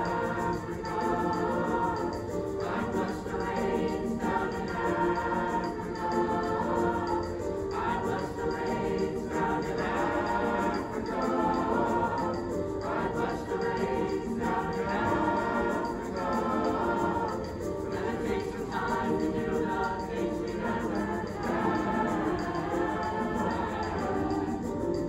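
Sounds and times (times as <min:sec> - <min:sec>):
mixed choir singing: 0:00.0 - 0:25.0.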